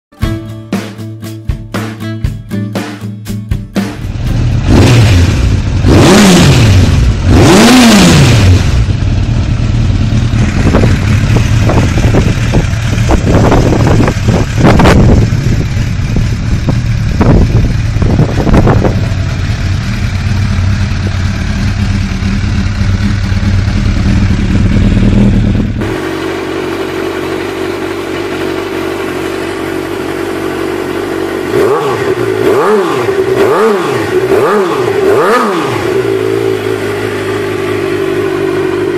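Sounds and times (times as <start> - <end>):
motorcycle engine revving: 3.9 - 38.9
motorcycle engine idling: 4.0 - 5.9, 8.4 - 38.9.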